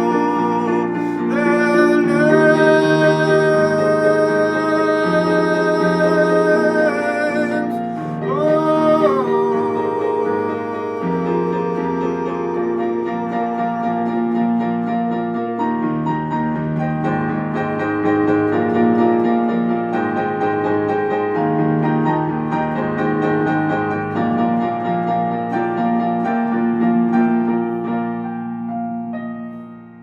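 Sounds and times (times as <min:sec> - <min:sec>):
keyboard chords: 0:00.0 - 0:30.0.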